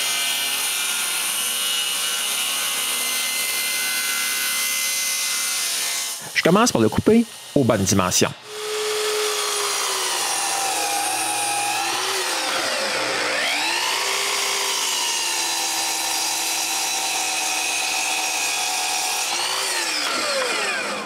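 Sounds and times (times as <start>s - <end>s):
mitre saw cutting plywood: 0.0s - 21.0s.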